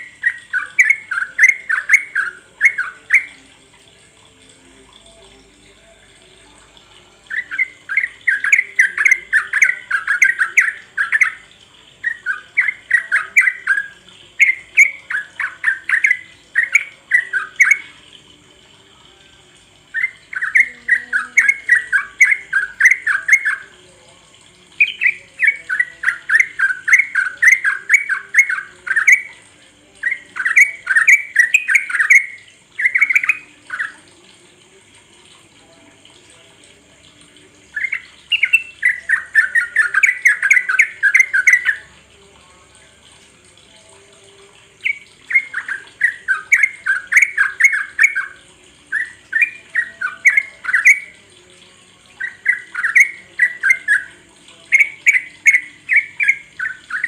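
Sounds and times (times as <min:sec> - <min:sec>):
bulbul chattering song: 0:00.0 - 0:57.0.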